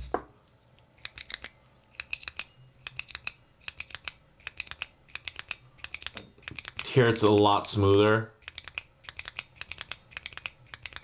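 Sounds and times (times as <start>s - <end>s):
ballpoint pen clicking: 1.0s - 7.4s, 8.4s - 11.0s.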